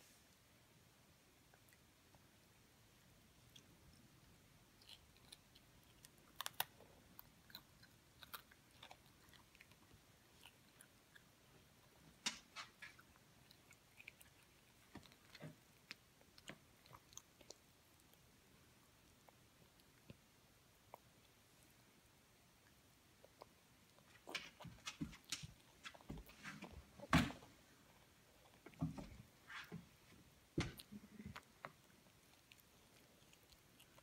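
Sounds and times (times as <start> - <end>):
child chewing crunchy cereal: 3.2 - 12.0, 12.7 - 27.0, 27.8 - 29.1, 30.7 - 34.0.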